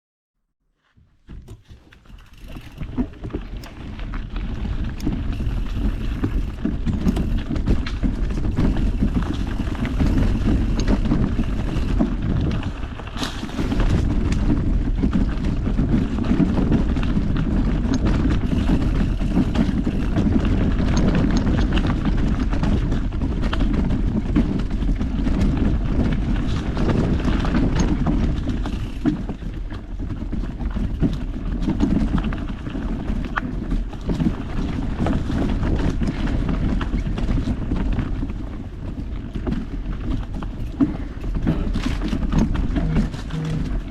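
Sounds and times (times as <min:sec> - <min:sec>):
bike tyres rumbling on dirt: 0:00.8 - 0:43.9
bike clicks and rattles: 0:00.9 - 0:43.9
wind buffeting microphone: 0:02.3 - 0:43.9.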